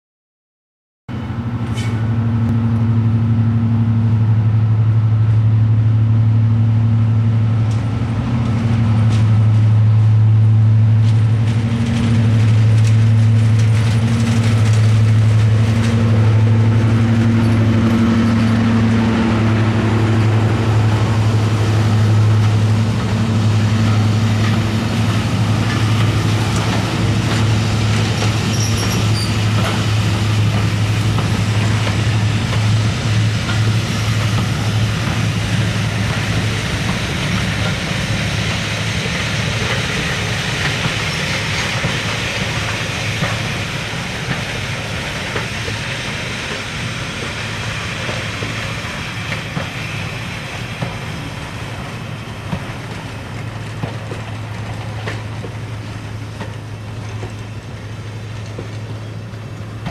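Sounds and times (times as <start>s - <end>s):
train wheels clicking on rails: 1.1s - 2.9s, 7.3s - 59.9s
diesel locomotive engine drone: 1.1s - 59.9s.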